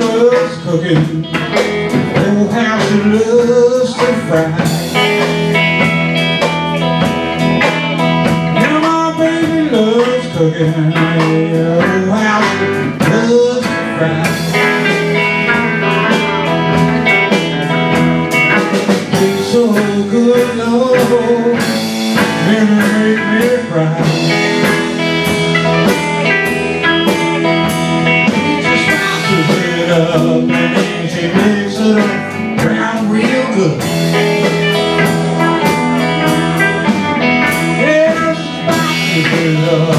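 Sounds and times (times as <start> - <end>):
lead guitar with bent notes: 0.0 - 39.9
live blues band playing: 0.0 - 39.9.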